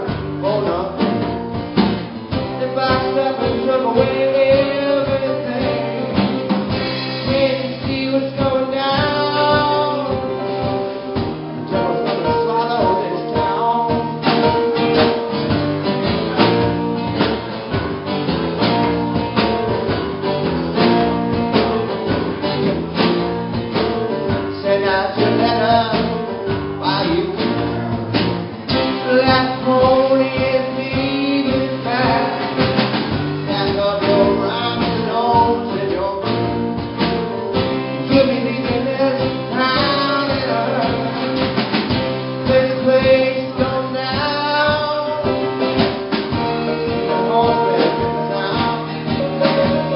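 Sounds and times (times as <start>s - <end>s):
person singing: 0.0s - 1.6s, 2.3s - 15.5s, 23.8s - 49.9s
drum kit: 0.0s - 49.9s
guitar: 0.0s - 49.9s.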